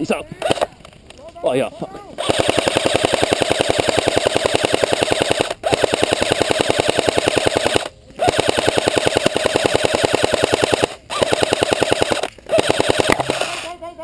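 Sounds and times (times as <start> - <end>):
airsoft rifle firing full auto: 0.4 - 0.7, 2.2 - 13.7.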